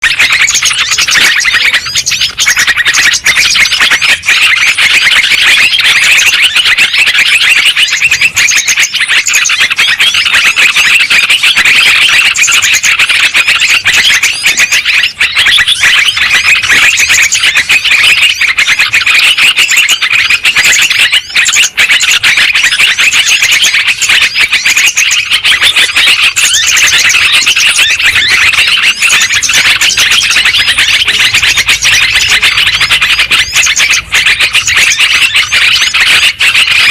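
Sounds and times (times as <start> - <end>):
birds chattering: 0.0 - 36.9.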